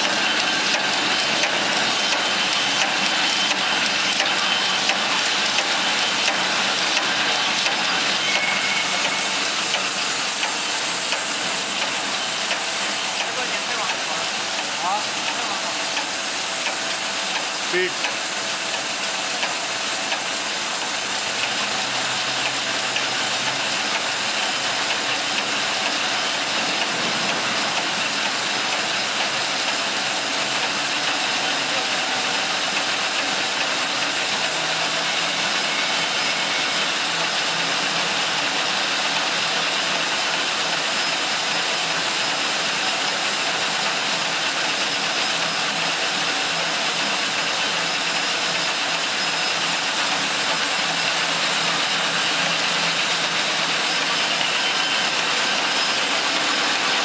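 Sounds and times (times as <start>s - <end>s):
machine hissing steadily: 0.0s - 57.0s.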